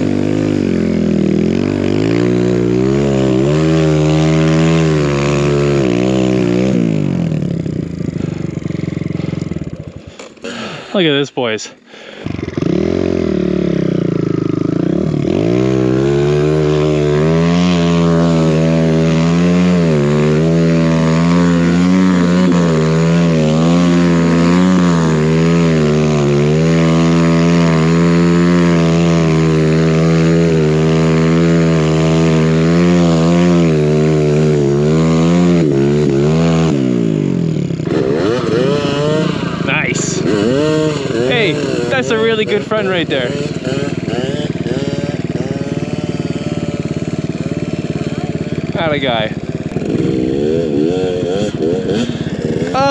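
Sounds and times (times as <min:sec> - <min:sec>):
dirt bike engine at high revs: 0:00.0 - 0:52.9.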